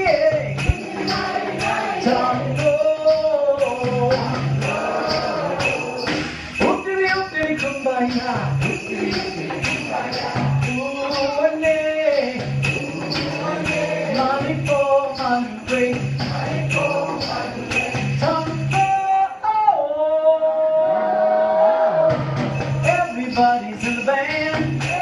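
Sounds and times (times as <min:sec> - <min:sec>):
jingling percussion beat: 0:00.0 - 0:19.7, 0:22.1 - 0:25.0.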